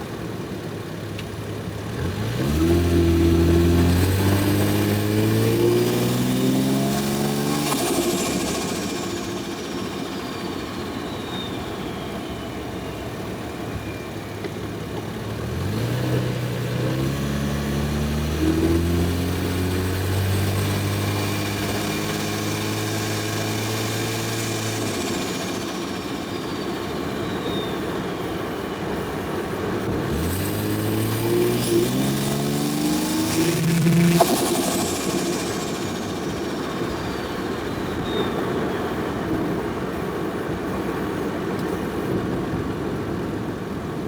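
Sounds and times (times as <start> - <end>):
car engine accelerating: 0.1 - 42.3.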